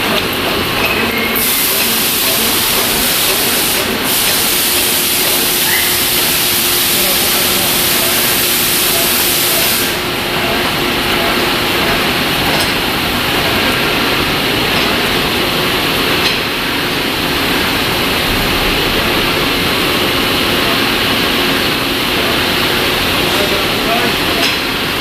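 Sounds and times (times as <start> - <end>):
lathe cutting rushing noise: 1.4 - 25.0.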